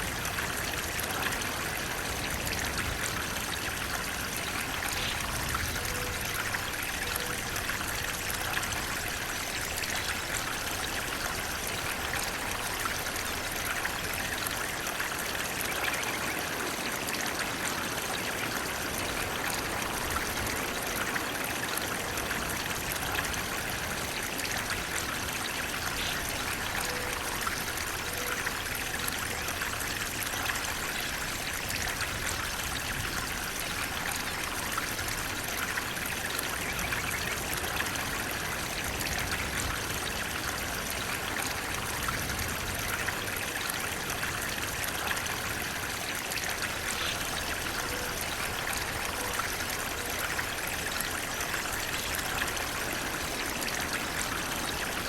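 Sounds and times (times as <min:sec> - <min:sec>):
water flowing: 0:00.0 - 0:55.0.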